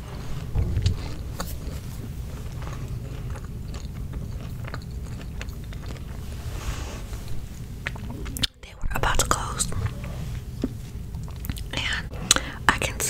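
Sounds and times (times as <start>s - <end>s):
wet chewing: 0.0s - 12.5s.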